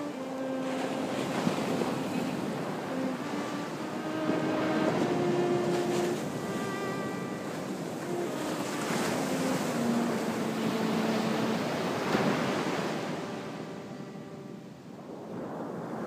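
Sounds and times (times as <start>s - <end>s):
viola bowed slowly: 0.0s - 14.9s
breaking surf: 0.0s - 16.0s.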